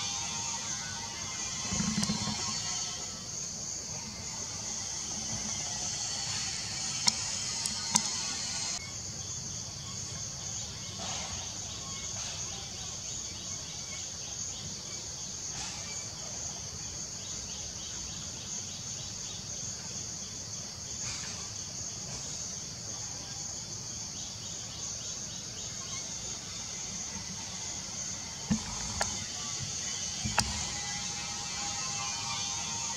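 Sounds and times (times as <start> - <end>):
high-pitched insect chorus: 0.0 - 32.9.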